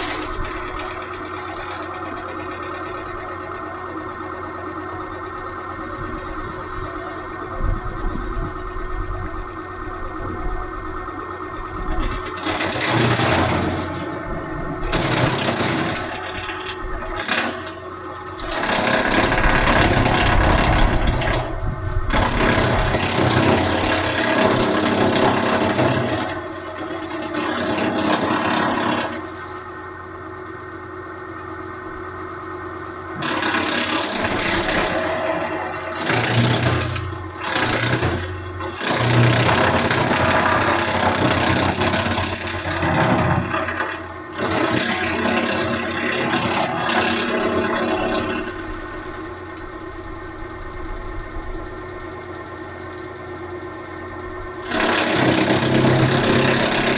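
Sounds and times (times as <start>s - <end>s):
wood chipper engine running: 0.0s - 56.9s.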